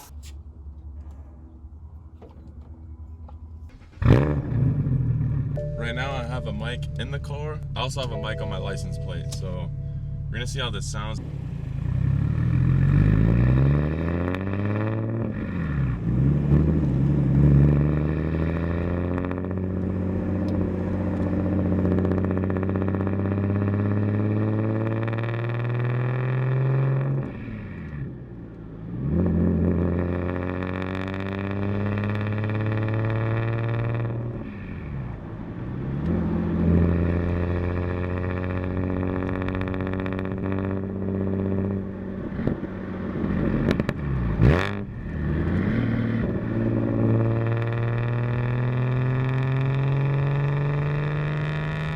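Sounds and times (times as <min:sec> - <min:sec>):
car engine accelerating through gears: 0:03.6 - 0:51.9.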